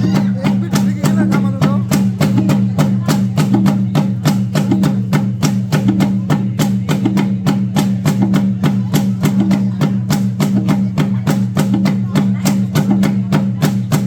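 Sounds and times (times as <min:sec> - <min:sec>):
wooden clacking beat: 0:00.0 - 0:14.0.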